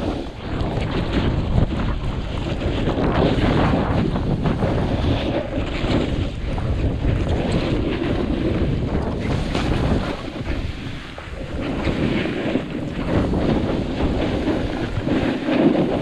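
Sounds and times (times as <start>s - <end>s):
snowboard sliding through snow: 0.0s - 16.0s
wind rushing over microphone: 0.0s - 16.0s.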